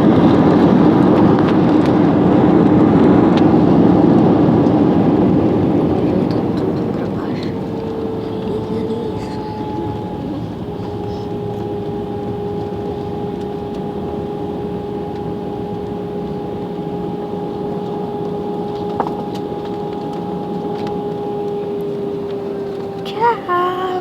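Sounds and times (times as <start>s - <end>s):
jet cabin engine and airflow rush: 0.0s - 24.0s
steady hum tones: 0.0s - 24.0s.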